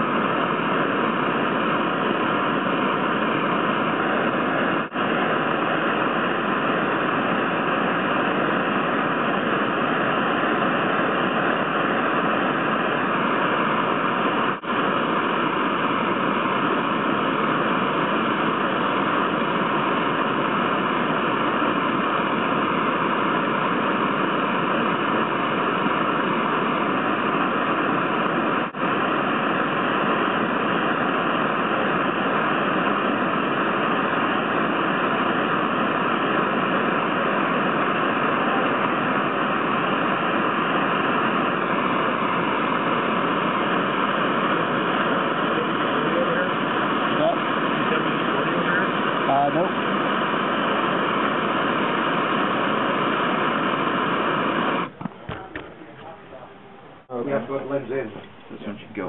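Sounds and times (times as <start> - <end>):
steady static hiss: 0.0 - 59.0.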